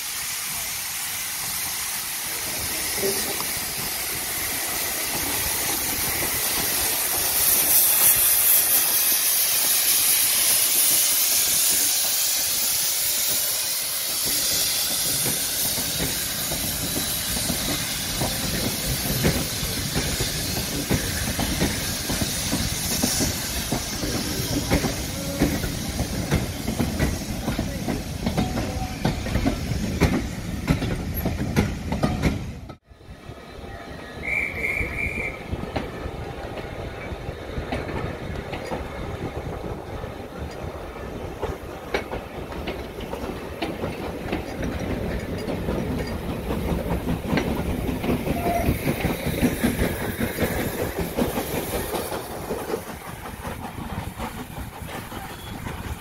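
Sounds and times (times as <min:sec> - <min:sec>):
train wheels clicking over rail joints: 0:00.0 - 0:32.8, 0:34.2 - 0:56.0
steam locomotive hissing: 0:00.0 - 0:56.0.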